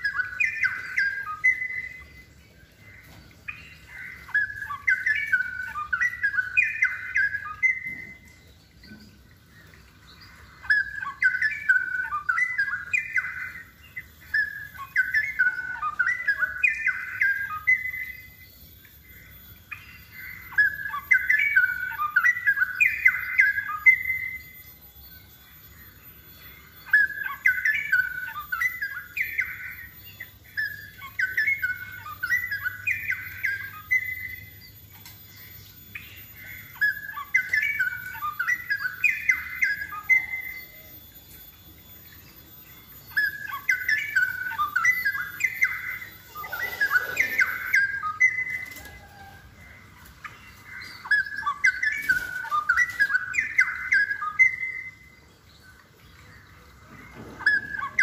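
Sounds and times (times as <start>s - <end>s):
bird singing warbled notes: 0.0s - 58.0s.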